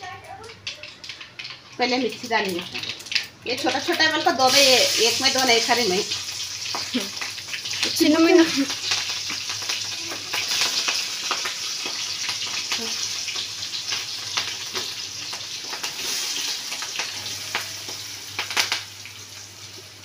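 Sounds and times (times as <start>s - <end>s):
chillies sizzling in hot oil: 0.0s - 20.0s.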